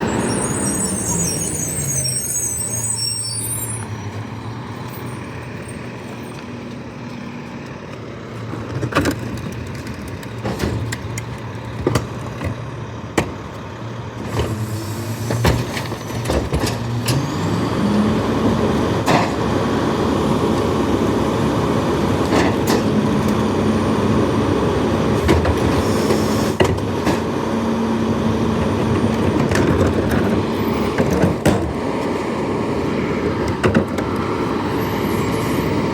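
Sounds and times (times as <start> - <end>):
garbage truck engine running: 0.0 - 35.9.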